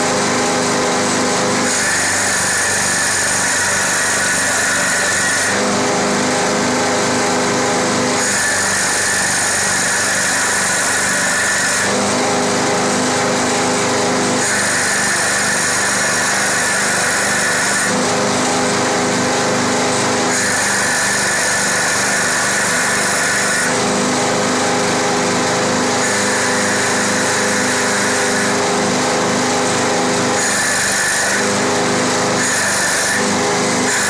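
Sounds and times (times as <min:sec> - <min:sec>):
wood lathe machine whine: 0:00.0 - 0:34.0.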